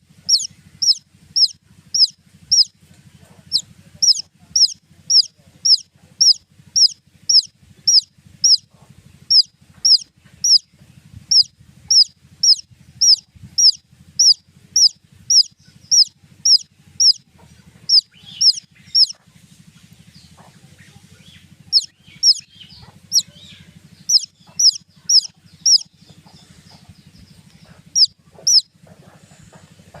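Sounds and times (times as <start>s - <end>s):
baby chicks peeping: 0.0s - 30.0s.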